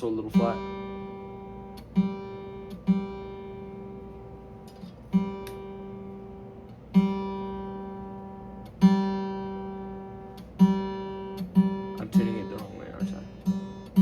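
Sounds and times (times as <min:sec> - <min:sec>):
acoustic guitar string plucked: 0:00.0 - 0:14.0.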